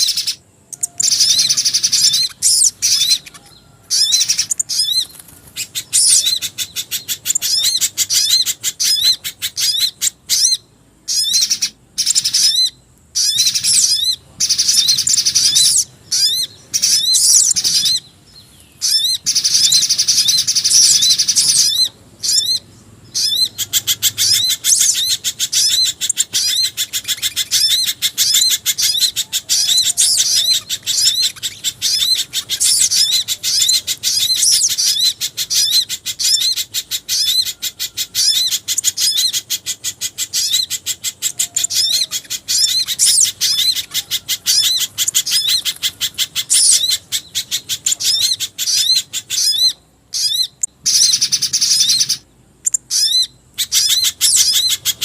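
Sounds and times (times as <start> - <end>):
high-pitched bird chirps: 0.0 - 55.0.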